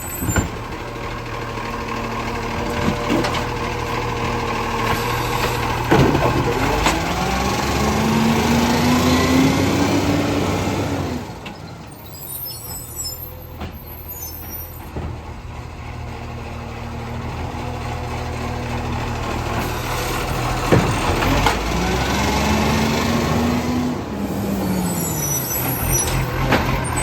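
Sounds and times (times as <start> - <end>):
garbage truck diesel engine running: 0.0 - 27.0.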